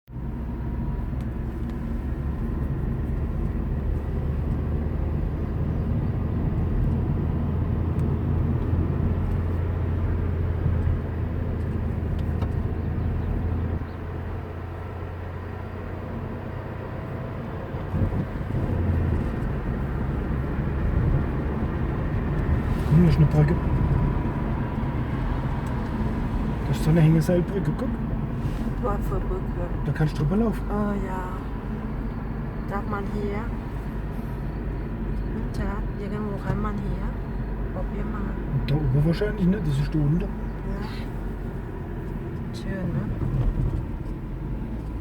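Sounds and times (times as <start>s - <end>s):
car engine and road noise: 0.0s - 45.0s.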